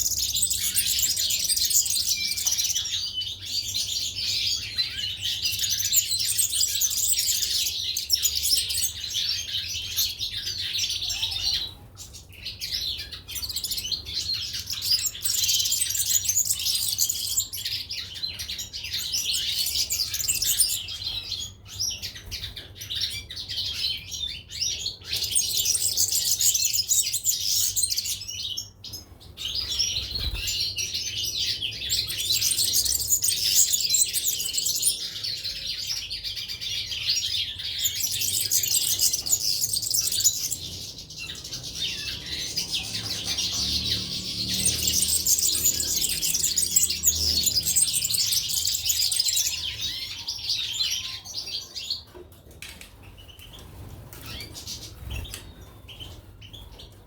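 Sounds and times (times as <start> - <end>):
finches chirping and twittering: 0.0 - 57.0.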